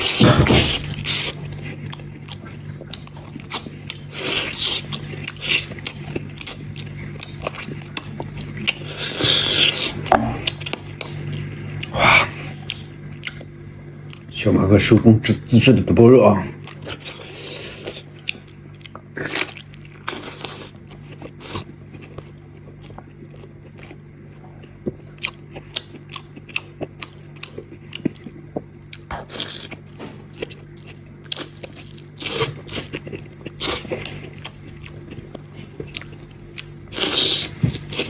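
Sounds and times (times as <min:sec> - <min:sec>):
wet chewing and biting: 0:00.0 - 0:14.3, 0:16.6 - 0:38.0
steady low hum: 0:00.0 - 0:38.0.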